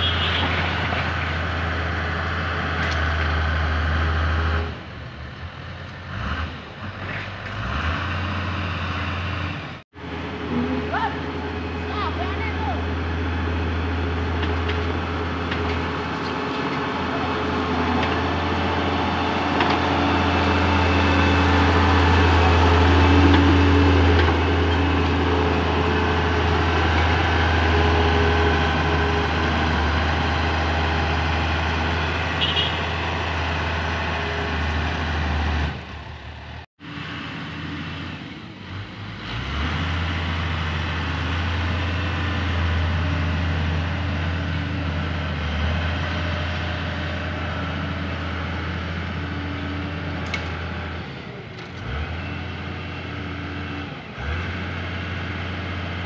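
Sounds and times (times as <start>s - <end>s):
diesel engine running: 6.8s - 56.0s.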